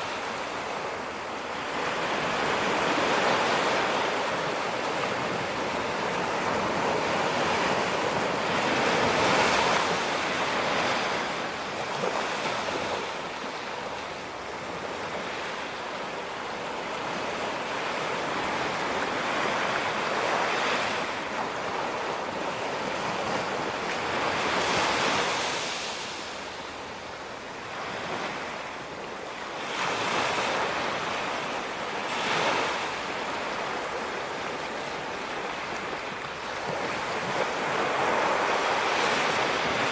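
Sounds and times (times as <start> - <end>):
steady wash of water: 0.0 - 39.9
waves breaking on beach: 0.0 - 39.9.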